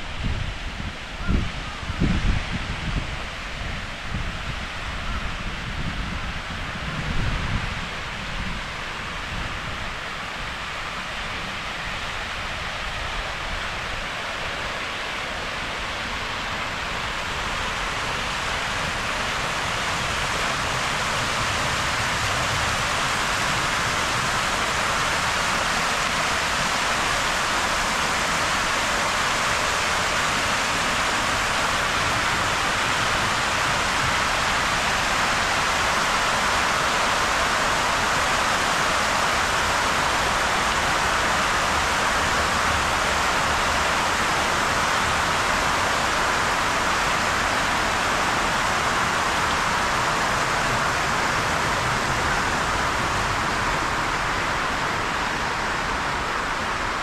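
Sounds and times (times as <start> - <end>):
fountain jets splashing: 4.7 - 57.0.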